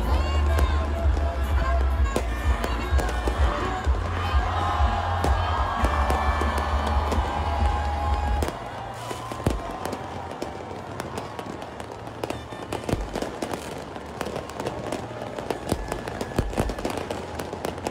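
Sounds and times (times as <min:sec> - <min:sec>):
fireworks bangs and pops: 0:00.0 - 0:17.9.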